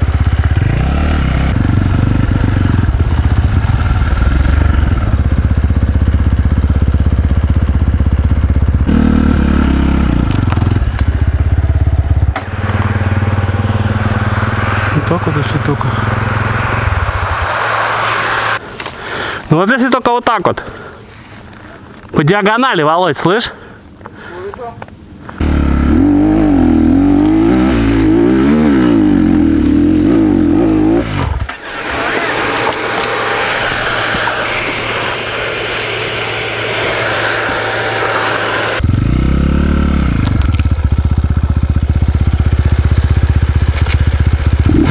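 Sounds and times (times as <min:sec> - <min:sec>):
dirt bike engine running: 0:00.0 - 0:18.6, 0:25.4 - 0:44.9.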